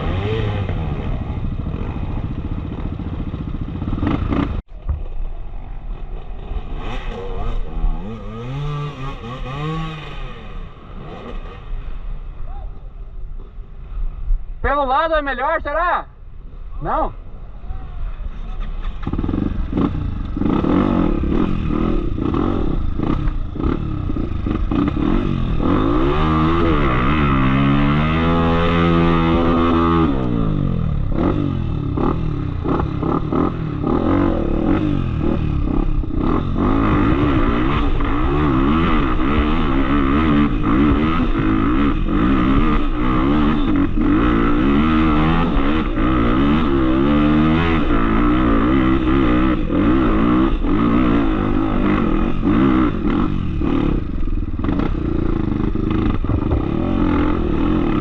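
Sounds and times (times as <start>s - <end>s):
motorcycle engine revving: 0.0s - 12.3s, 18.2s - 58.0s.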